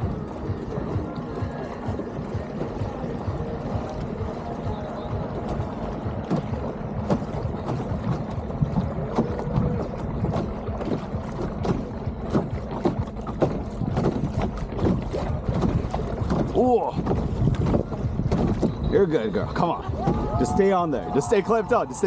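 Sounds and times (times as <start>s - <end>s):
low rumble: 0.0s - 22.0s
water slapping against hull: 0.0s - 22.0s
wind buffeting microphone: 0.0s - 22.0s.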